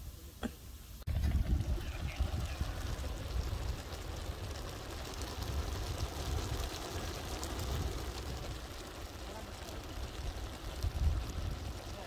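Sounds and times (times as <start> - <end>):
fire rumbling and crackling: 1.0 - 12.0.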